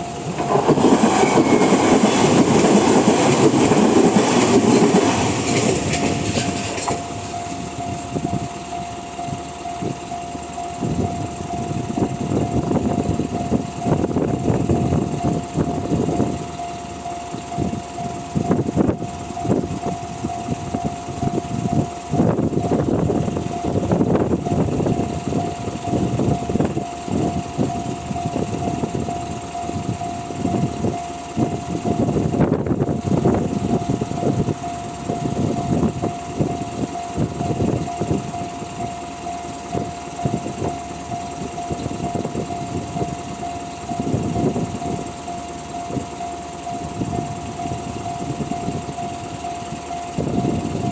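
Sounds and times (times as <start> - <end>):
level crossing alarm tone: 0.0 - 5.0, 6.8 - 50.9
train wheels rumbling on rails: 0.0 - 50.9.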